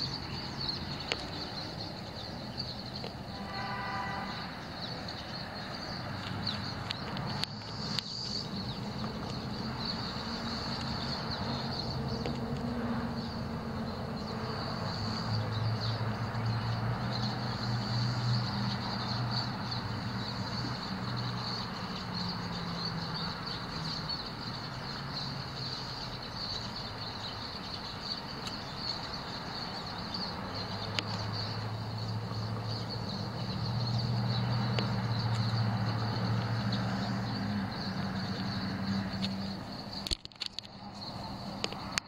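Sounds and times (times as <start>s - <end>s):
finches twittering: 0.0s - 12.4s, 13.2s - 42.0s.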